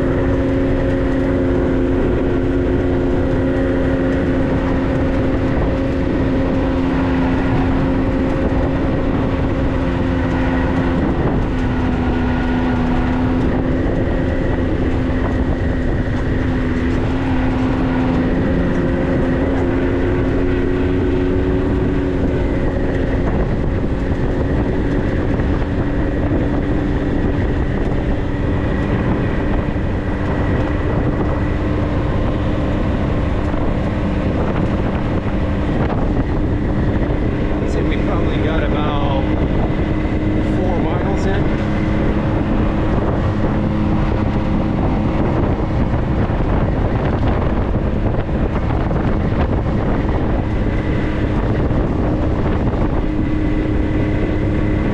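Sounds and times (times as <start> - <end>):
tyres rumbling on dirt: 0.0 - 54.9
vehicle engine running: 0.0 - 54.9.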